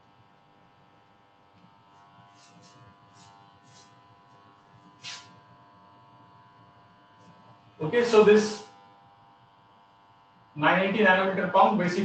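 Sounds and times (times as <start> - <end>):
faint electrical buzz: 0.0 - 12.0.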